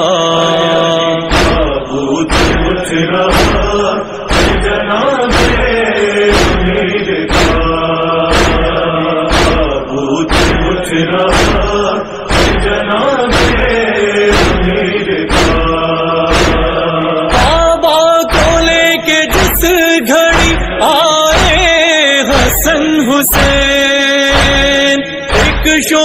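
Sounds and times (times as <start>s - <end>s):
mourners striking their chests: 1.3s - 26.0s.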